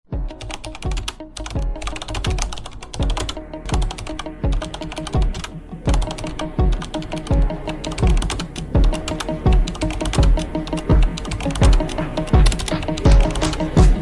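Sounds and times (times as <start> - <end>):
kick drum beat: 0.1 - 14.0
sustained melody: 0.1 - 14.0
rapid clicking percussion: 0.2 - 14.0.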